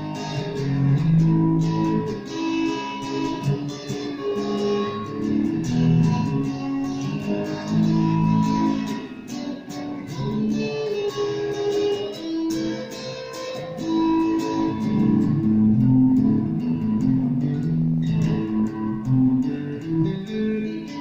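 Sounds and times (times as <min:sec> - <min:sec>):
electric guitar notes: 0:00.0 - 0:21.0.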